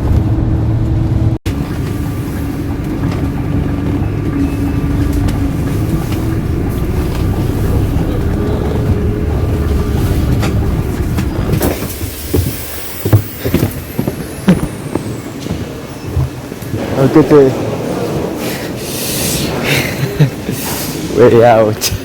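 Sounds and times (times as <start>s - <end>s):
bus diesel engine droning: 0.0s - 21.4s
road noise: 0.0s - 22.0s.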